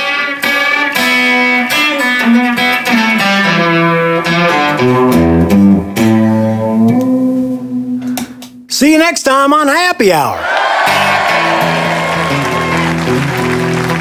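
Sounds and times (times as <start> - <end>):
twelve-string guitar playing: 0.0 - 8.7, 10.8 - 14.0.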